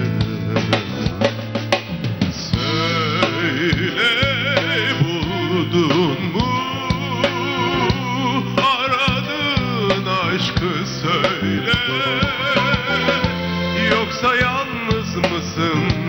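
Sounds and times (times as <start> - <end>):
man singing into microphone: 0.0 - 1.5, 2.3 - 16.0
instrumental backing with held low notes: 0.0 - 16.0.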